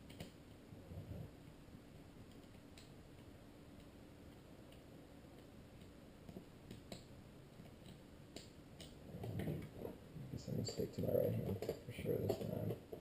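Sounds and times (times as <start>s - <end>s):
faint plastic parts clicking: 2.2s - 13.0s.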